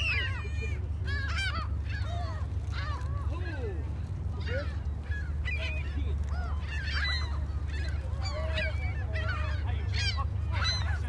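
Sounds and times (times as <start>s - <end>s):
gulls squawking: 0.0s - 11.0s.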